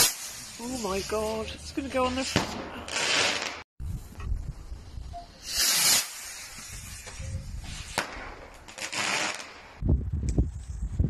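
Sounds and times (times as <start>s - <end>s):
firework crack: 0.0s - 4.2s, 5.3s - 10.4s
fireworks hissing: 0.0s - 9.8s.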